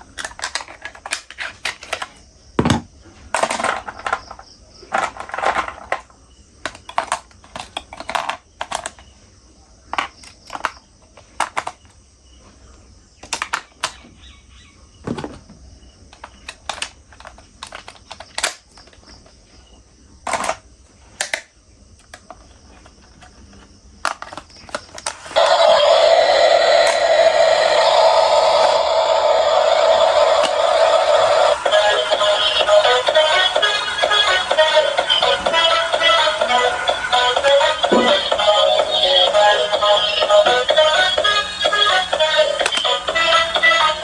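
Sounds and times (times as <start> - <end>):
plastic toy vehicles clicking: 0.0 - 2.2, 3.3 - 9.2, 9.9 - 12.0, 13.2 - 14.1, 16.1 - 19.3, 20.2 - 44.0.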